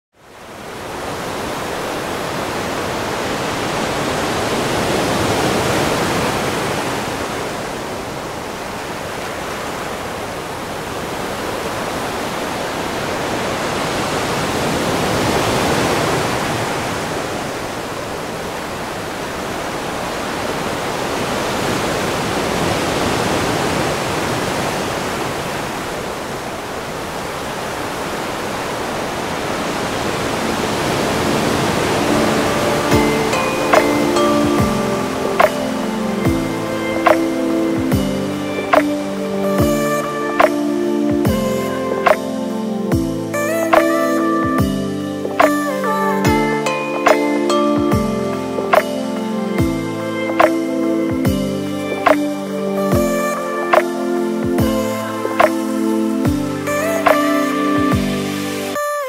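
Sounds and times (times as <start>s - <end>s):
waves breaking on a beach: 0.2s - 59.0s.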